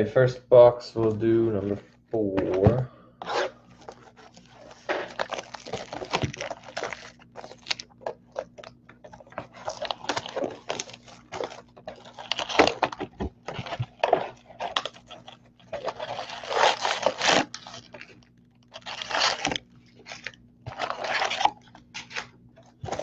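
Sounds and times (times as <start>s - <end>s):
shrink wrap tearing and crinkling: 3.3s - 23.0s.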